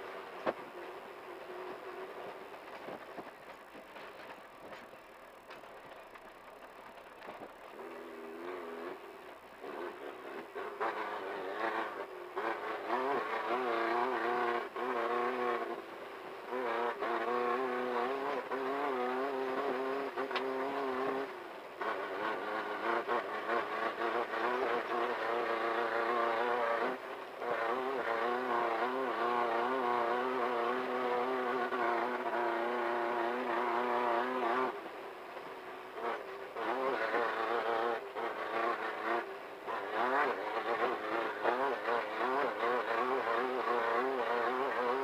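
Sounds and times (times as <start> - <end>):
race car engine at high revs: 0.0 - 45.0.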